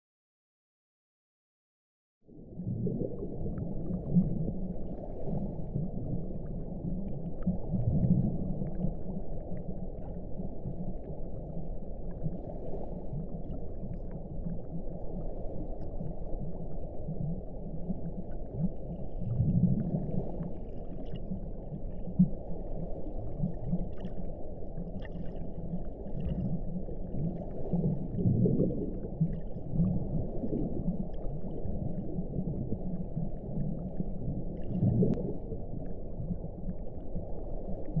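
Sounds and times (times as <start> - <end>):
slow underwater groans: 2.3 - 38.0
underwater rumbling wash: 2.3 - 38.0.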